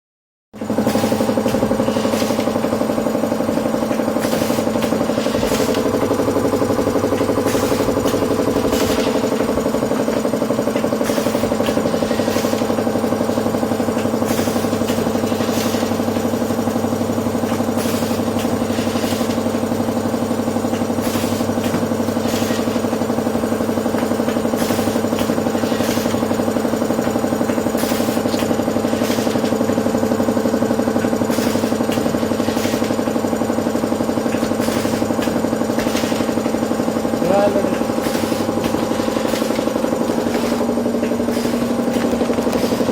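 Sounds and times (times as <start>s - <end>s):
packing machine motor hum: 0.6s - 42.9s.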